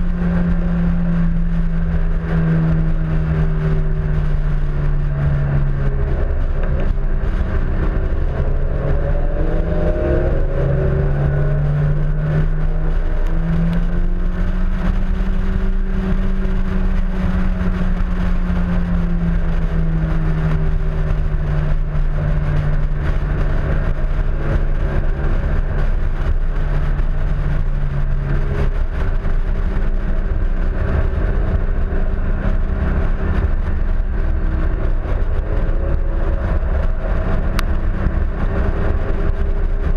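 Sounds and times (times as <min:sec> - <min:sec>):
car engine revving through gears: 0:00.0 - 0:39.9
wind rush on microphone: 0:00.0 - 0:39.9.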